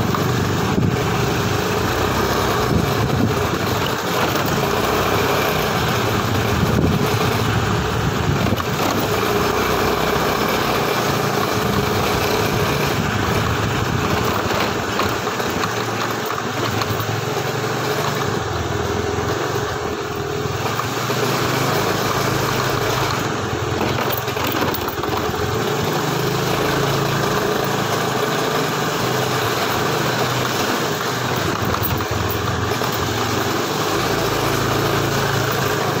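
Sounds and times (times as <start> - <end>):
small engine idling: 0.0 - 36.0.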